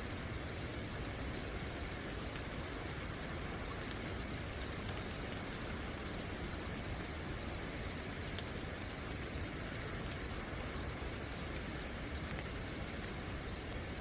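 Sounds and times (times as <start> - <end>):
cricket chirping: 0.0 - 14.0
steady rain hiss: 0.0 - 14.0.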